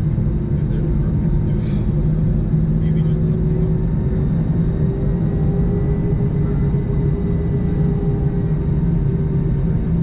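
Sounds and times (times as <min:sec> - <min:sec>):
aircraft cabin rumble: 0:00.0 - 0:10.0.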